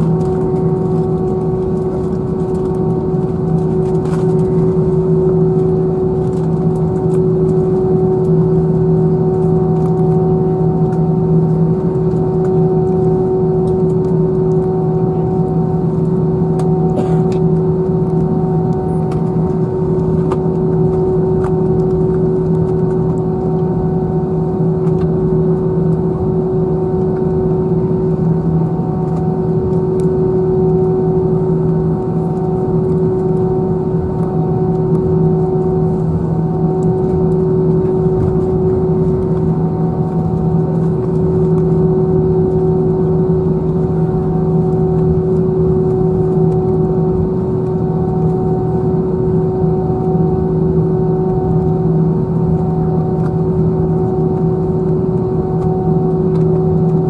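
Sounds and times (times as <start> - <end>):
constant humming tones: 0.0 - 57.0
jet engine drone in cabin: 0.0 - 57.0.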